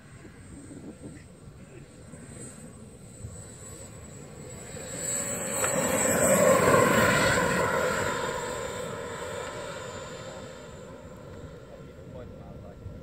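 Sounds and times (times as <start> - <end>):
model jet whine and air rush: 0.0 - 13.0.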